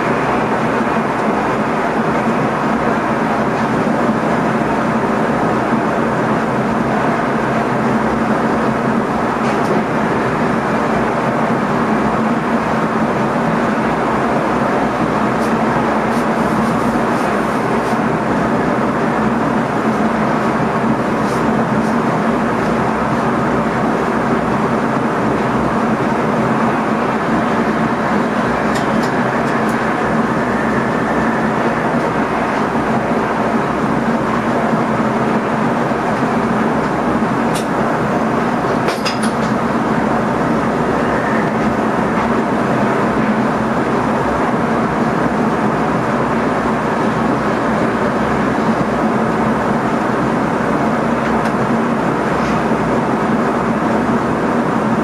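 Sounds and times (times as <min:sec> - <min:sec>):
train running noise: 0:00.0 - 0:55.0.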